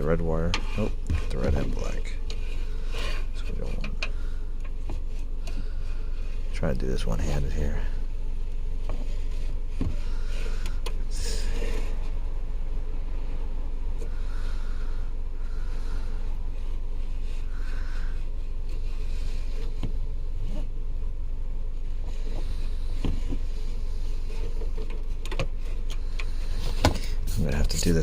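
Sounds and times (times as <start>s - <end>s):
vehicle rumbling: 0.0s - 28.0s.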